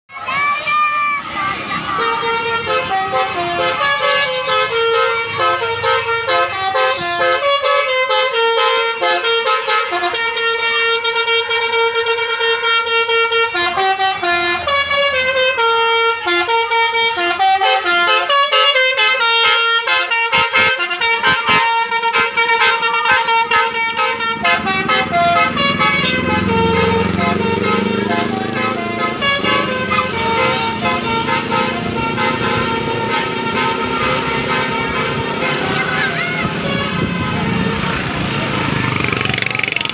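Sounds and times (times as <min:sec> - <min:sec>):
bus horn melody: 0:00.3 - 0:39.5.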